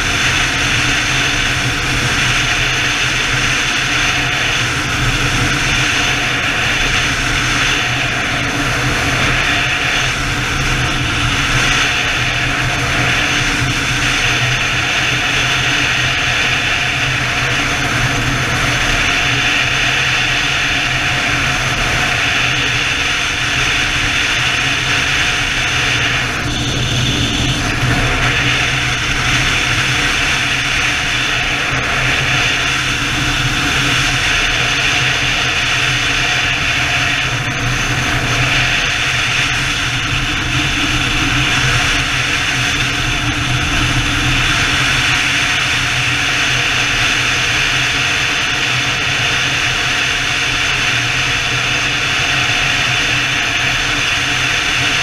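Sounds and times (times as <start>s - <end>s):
motorcycle engine and road noise: 0.0s - 55.0s
wind noise on microphone: 0.0s - 55.0s.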